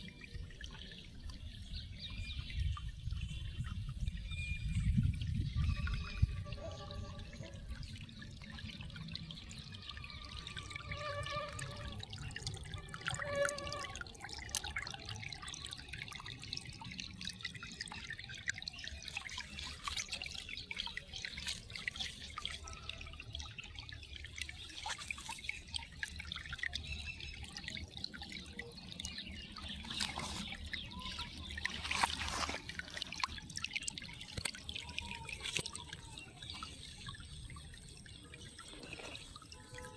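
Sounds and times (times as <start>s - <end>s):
water dripping and trickling: 0.0s - 39.9s.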